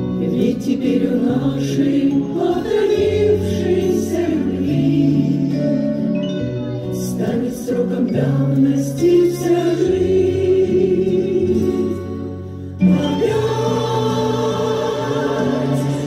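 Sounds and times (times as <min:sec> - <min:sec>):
instrumental accompaniment: 0:00.0 - 0:16.0
women's choir singing: 0:00.1 - 0:06.0, 0:07.0 - 0:12.2, 0:12.8 - 0:16.0.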